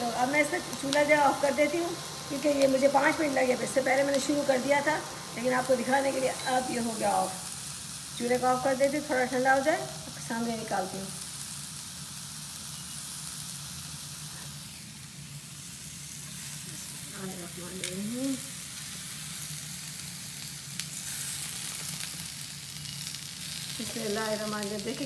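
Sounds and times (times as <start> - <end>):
vegetables sizzling in a frying pan: 0.0 - 25.0.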